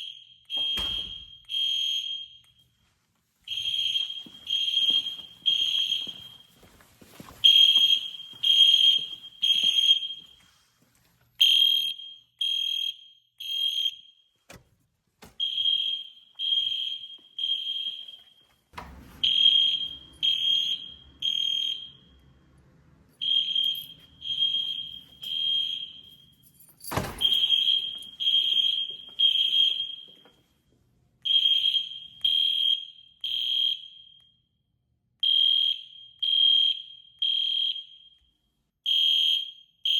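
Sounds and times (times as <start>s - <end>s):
fire alarm horn blasts: 0.0s - 2.8s, 3.5s - 10.4s, 11.4s - 14.4s, 15.4s - 22.5s, 23.1s - 30.5s, 31.2s - 39.9s.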